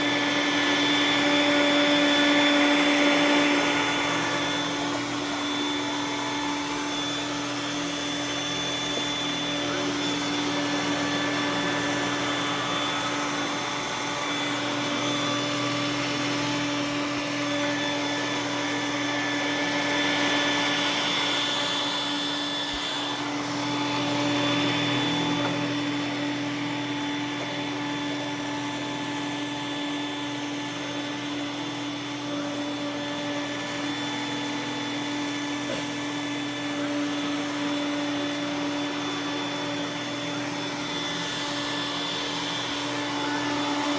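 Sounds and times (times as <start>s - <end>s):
robot vacuum running: 0.0s - 43.9s.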